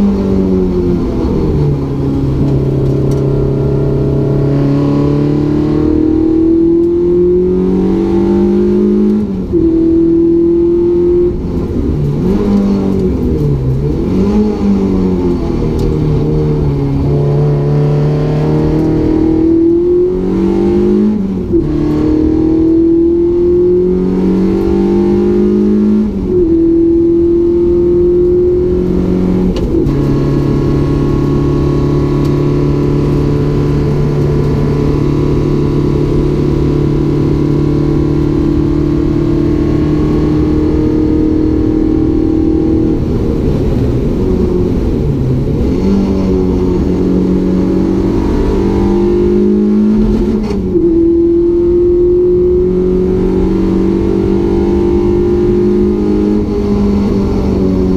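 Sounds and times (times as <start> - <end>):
car engine at full throttle: 0.0 - 57.9.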